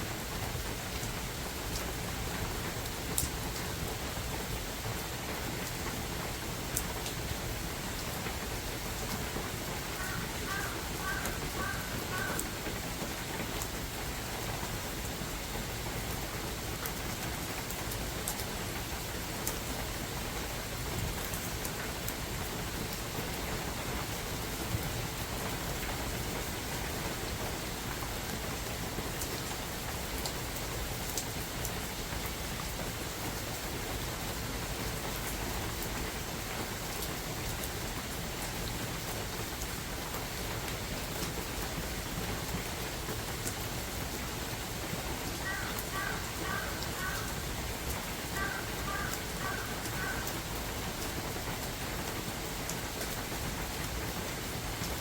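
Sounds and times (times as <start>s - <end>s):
rain falling in forest: 0.0s - 55.0s.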